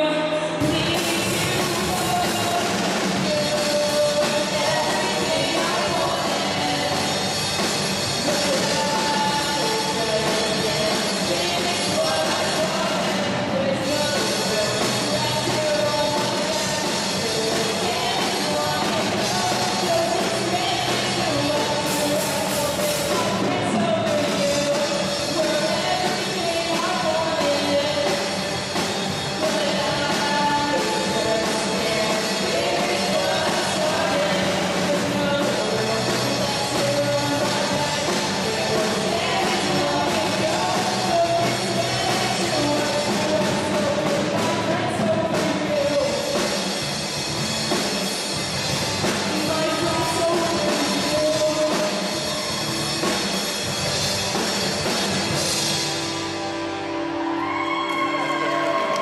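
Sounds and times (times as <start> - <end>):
female lead vocal: 0.0 - 28.5, 29.3 - 46.6, 49.4 - 52.6
bass guitar: 0.0 - 59.0
drum kit: 0.0 - 59.0
electric guitars: 0.0 - 59.0.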